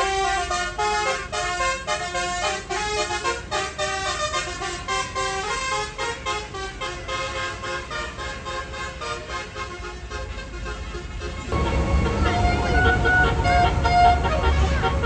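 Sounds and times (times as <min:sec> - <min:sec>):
low engine rumble: 0:00.0 - 0:15.0
musical bus horn tune: 0:00.0 - 0:15.0.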